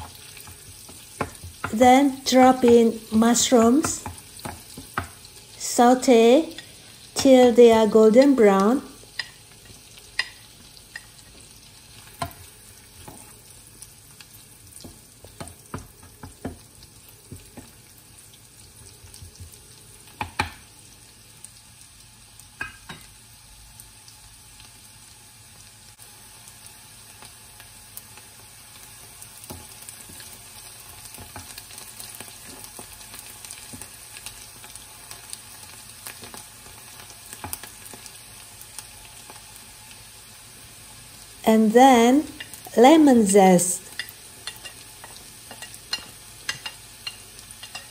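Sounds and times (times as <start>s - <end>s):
garlic and mushrooms sizzling: 0.0s - 47.9s.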